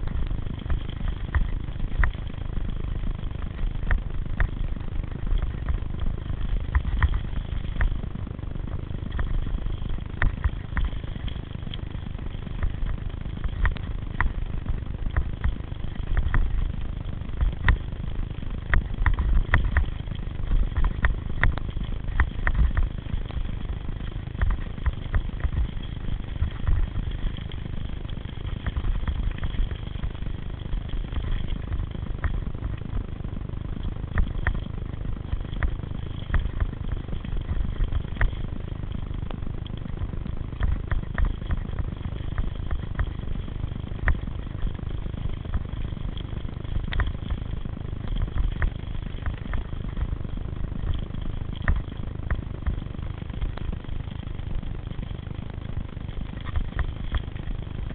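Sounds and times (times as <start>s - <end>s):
bike clicking and rattling: 0.0s - 8.2s, 8.8s - 57.9s
bicycle tyres rumbling on dirt: 0.0s - 57.9s
wind on microphone: 0.0s - 57.9s.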